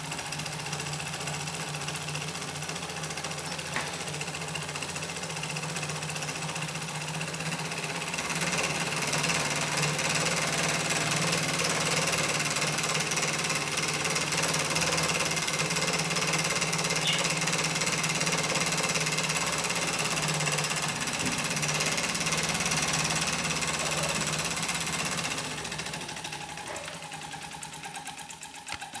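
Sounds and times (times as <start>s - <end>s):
toy steam engine clattering: 0.0s - 29.0s.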